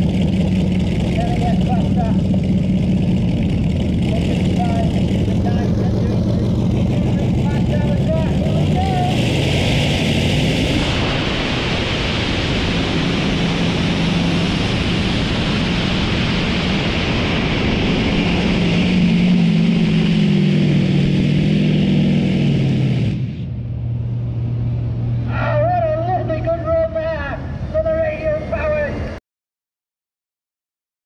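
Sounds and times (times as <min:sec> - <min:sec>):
loud tractor engine wavering: 0:00.0 - 0:29.2
low engine drone: 0:00.0 - 0:29.2.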